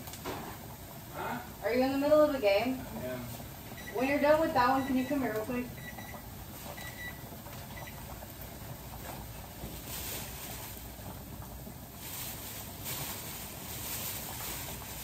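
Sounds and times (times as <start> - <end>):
pot boiling and bubbling: 0.0 - 15.0.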